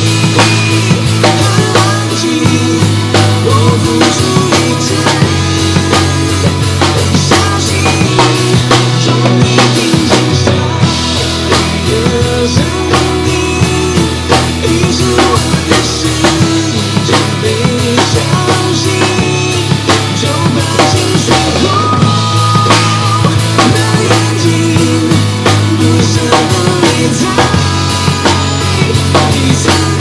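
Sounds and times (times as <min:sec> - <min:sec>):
live acoustic drum kit: 0:00.0 - 0:30.0
pop backing track: 0:00.0 - 0:30.0.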